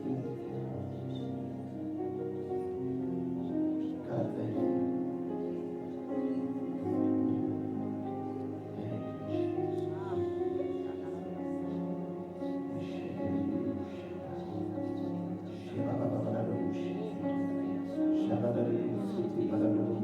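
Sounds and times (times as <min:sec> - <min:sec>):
soft keyboard chords: 0:00.0 - 0:20.0.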